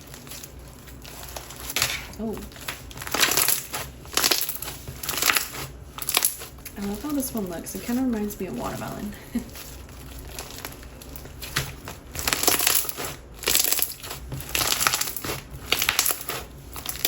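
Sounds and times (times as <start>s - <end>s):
slime crunching when squeezed: 0.0s - 17.0s.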